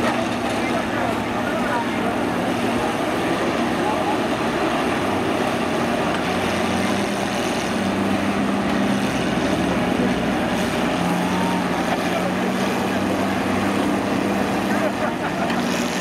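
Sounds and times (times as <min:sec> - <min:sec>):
combine engines droning: 0:00.0 - 0:16.0.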